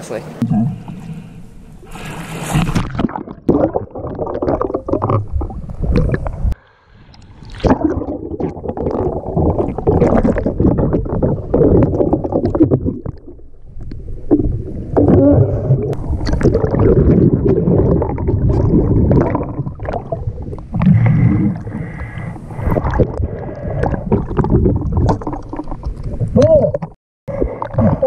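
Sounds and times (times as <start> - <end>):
underwater sloshing and bubbling: 0.4 - 28.0.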